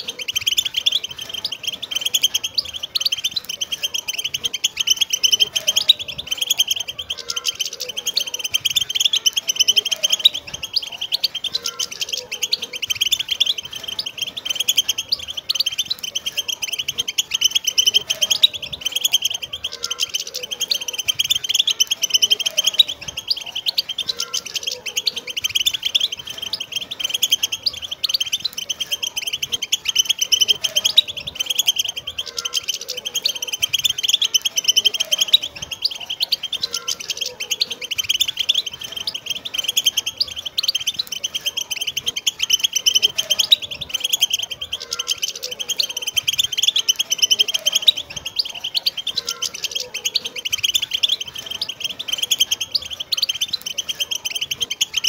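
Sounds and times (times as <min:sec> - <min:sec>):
goldfinches twittering: 0:00.0 - 0:55.0.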